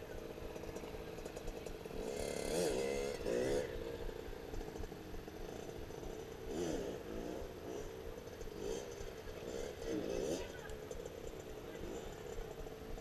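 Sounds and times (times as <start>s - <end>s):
dirt bike engine revving: 0.3s - 13.0s.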